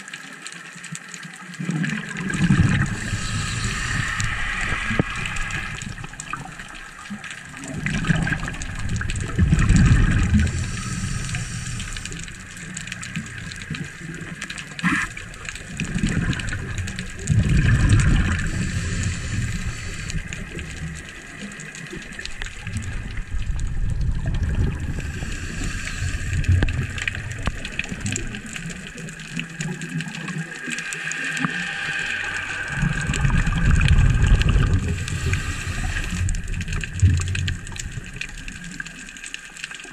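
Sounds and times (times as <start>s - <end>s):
underwater rushing: 0.0s - 39.9s
steady hiss: 2.4s - 39.9s.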